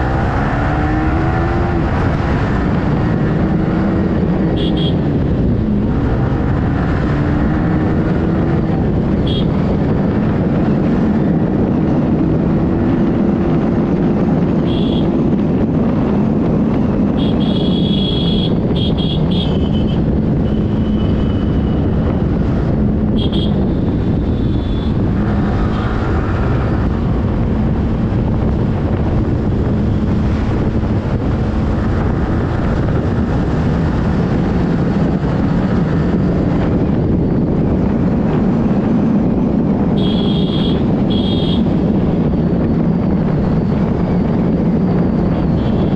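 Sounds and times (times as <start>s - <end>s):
wind rush on microphone: 0.0s - 45.9s.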